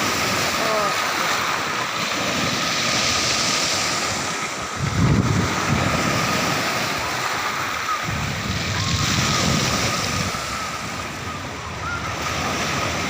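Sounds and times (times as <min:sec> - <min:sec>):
sea waves washing on shore: 0:00.0 - 0:13.0
wind buffeting microphone: 0:02.0 - 0:13.0.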